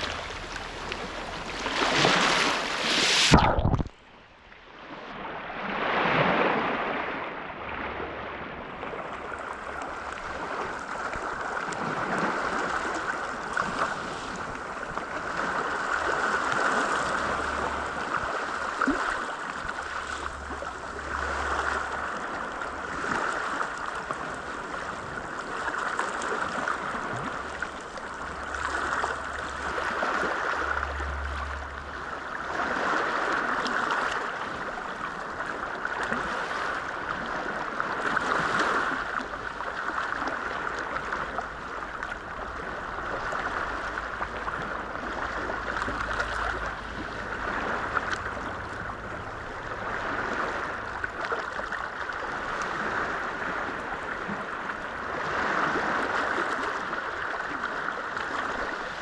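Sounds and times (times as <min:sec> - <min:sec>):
waves washing onto pebble beach: 0:00.0 - 0:03.4, 0:09.7 - 0:59.0.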